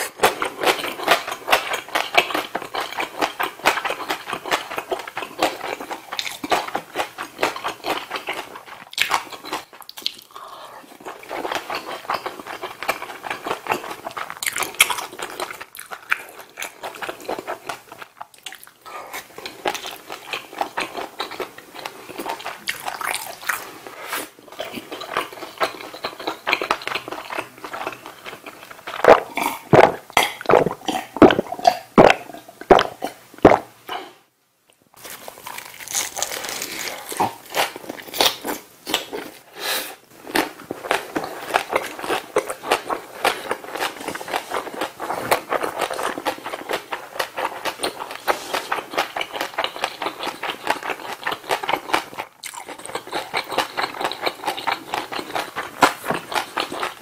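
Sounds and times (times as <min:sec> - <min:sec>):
chewing noodles: 0:00.0 - 0:23.8, 0:24.4 - 0:33.2, 0:40.2 - 0:57.0.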